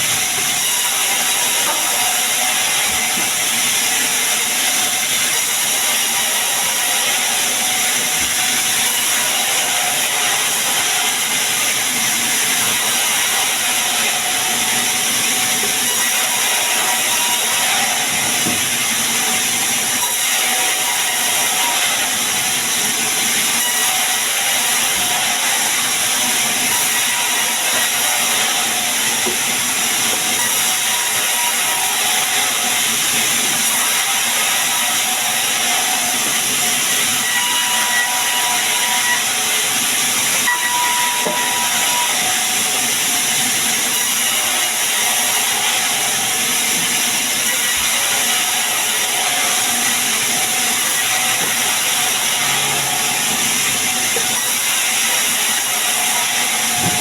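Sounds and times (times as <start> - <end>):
saw blade cutting wood: 0.0 - 57.0.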